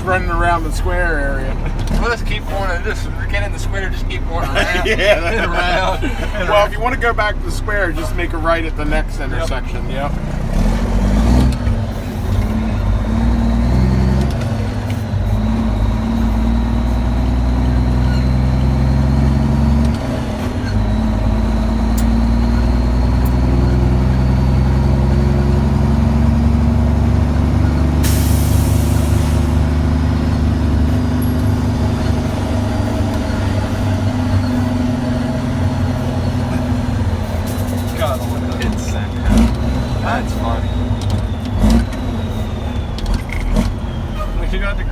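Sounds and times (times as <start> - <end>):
dump truck diesel engine running: 0.0 - 44.9.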